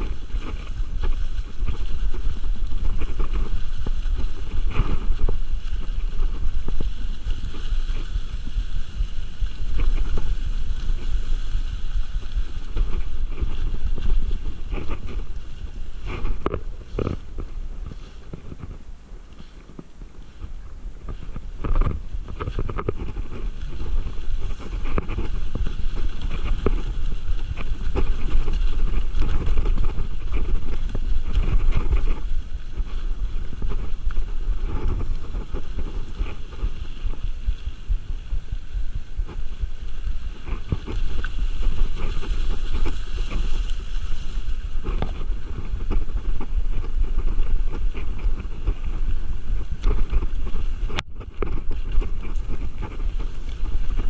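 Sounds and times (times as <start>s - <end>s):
bike rattling and knocking: 0.0s - 18.8s, 19.6s - 54.0s
bike tyre rumble on dirt: 0.0s - 54.0s
wind on microphone: 0.0s - 54.0s.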